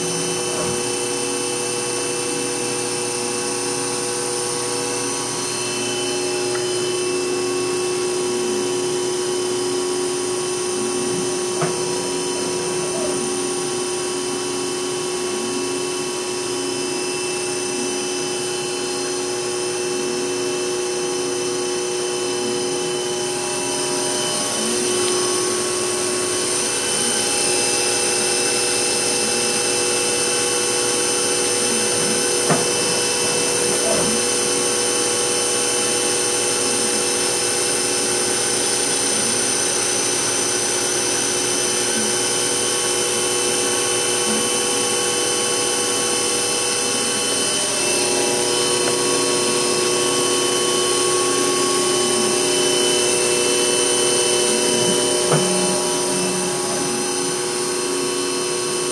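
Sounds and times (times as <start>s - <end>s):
machine high-pitched whine: 0.0s - 58.9s.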